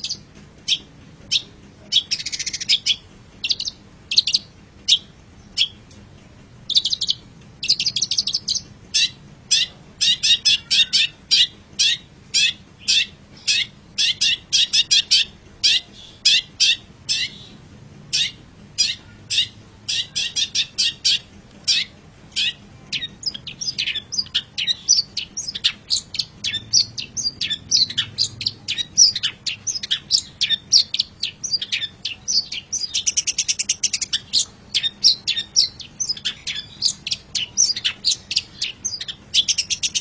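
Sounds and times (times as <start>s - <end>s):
bird singing chirping notes: 0.0s - 5.9s, 6.6s - 40.0s.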